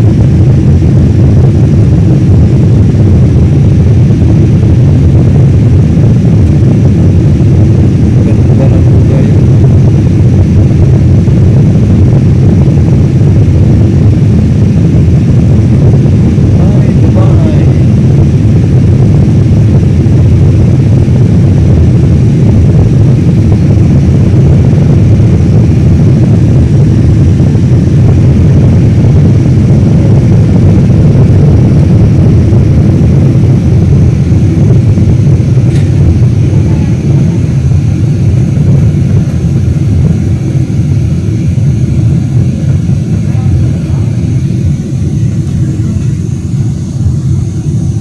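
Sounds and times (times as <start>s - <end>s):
airliner cabin rumble: 0.0s - 48.0s.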